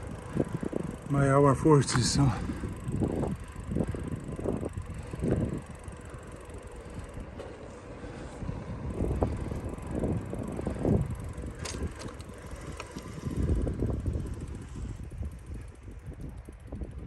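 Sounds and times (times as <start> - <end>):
tyres rumbling on road: 0.0 - 14.8
bicycle clicks: 0.0 - 17.0
wind buffeting microphone: 0.0 - 17.0.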